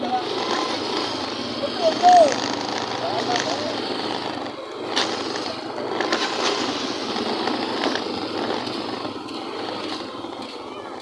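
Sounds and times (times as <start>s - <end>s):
motorcycle knocking over bumps: 0.0s - 10.7s
small motorcycle running: 0.0s - 11.0s.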